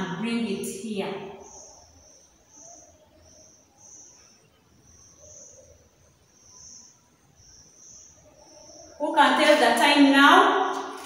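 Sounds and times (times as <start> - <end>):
faint insect chirping: 0.0 - 11.0.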